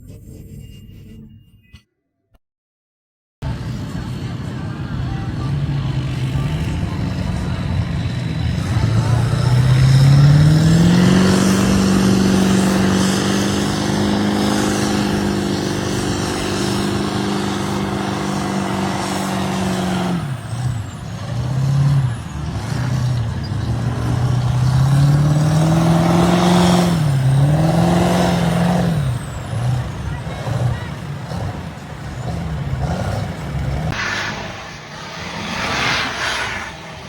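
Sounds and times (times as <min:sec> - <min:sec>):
off-road engine revving: 0:03.4 - 0:37.0.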